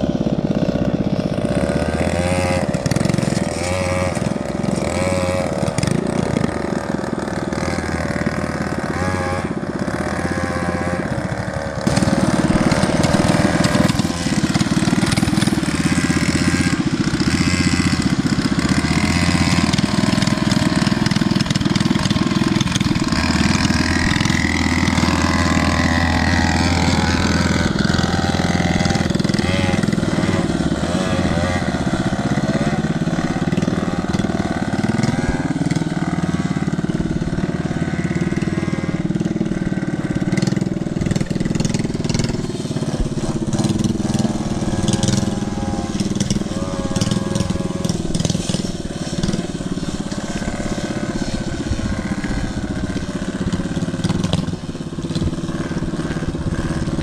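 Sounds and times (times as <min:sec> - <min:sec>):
mini bike engines revving: 0:00.0 - 0:57.0.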